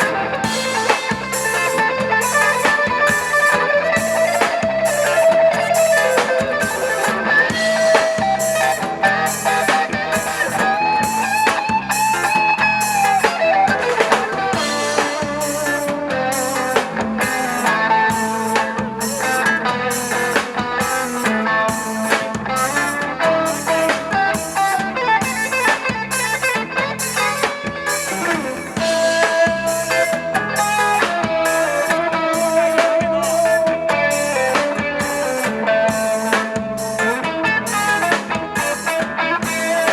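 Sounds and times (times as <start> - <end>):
drum kit beat: 0.0 - 39.9
electric guitar lead: 0.0 - 39.9.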